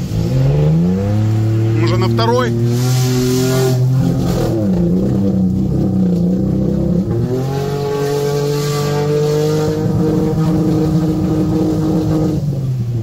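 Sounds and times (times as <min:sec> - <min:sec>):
engine revving hard: 0:00.0 - 0:12.5.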